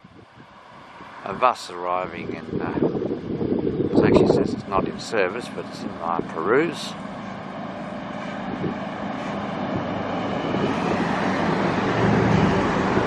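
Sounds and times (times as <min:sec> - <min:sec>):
bus engine and tyres: 0:00.0 - 0:13.0.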